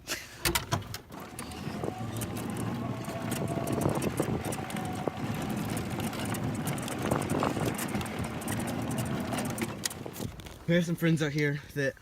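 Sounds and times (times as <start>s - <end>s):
golf cart motor running: 0.6s - 10.7s
cart rattling over ground: 0.7s - 11.2s.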